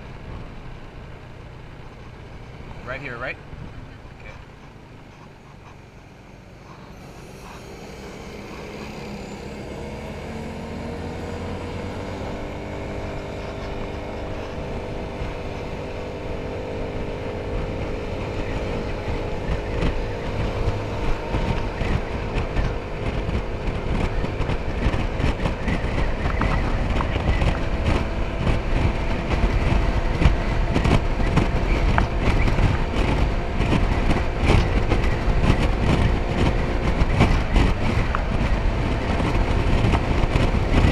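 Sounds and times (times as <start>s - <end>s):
motor scooter engine accelerating: 0.0s - 40.9s
wind buffeting microphone: 0.0s - 40.9s.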